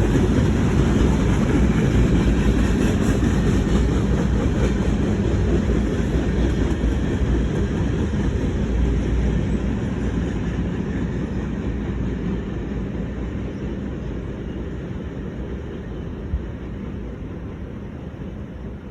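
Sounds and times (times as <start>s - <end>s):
freight train rumbling on rails: 0.0s - 18.9s.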